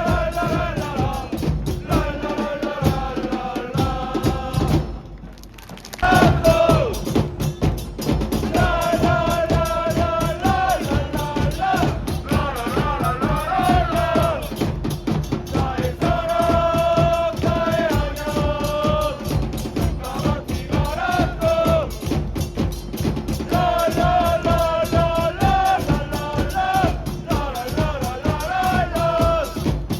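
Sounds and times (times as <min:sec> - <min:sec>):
dense drumbeat: 0:00.0 - 0:05.3, 0:06.0 - 0:29.9.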